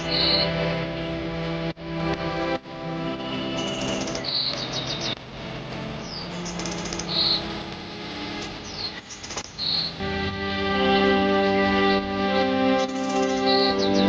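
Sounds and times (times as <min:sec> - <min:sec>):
flowing water rushing: 0:00.0 - 0:14.0
songbirds chirping: 0:00.0 - 0:14.0.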